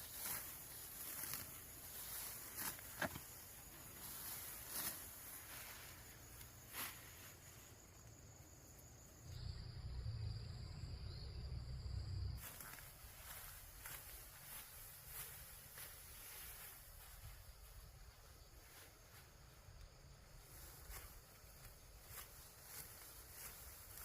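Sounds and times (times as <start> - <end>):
rustles: 0.0 - 9.4, 12.2 - 24.0.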